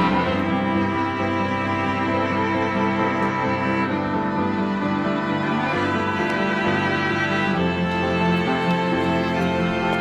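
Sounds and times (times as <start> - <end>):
bowed strings music: 0.0 - 10.0.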